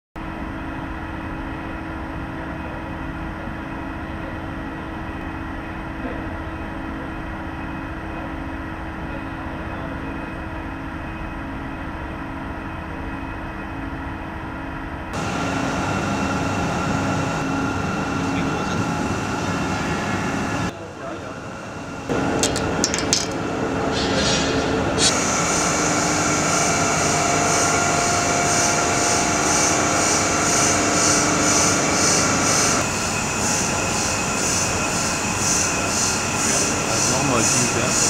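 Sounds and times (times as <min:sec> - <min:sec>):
machinery hum with held tones: 0:00.2 - 0:38.0.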